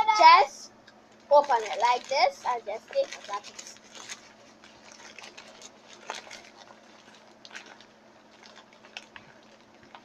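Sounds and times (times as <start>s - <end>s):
packaging rustling and clicking: 1.2s - 10.0s.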